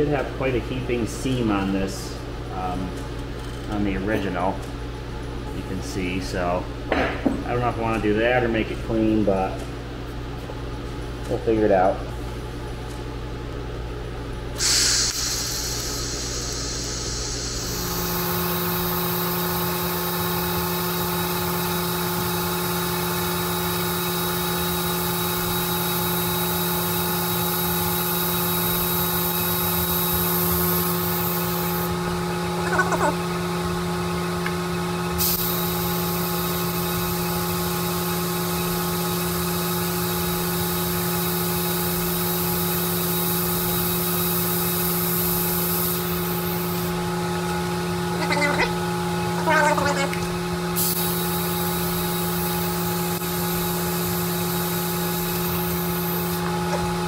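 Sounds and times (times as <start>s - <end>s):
welder arc humming and hissing: 0.0s - 57.0s.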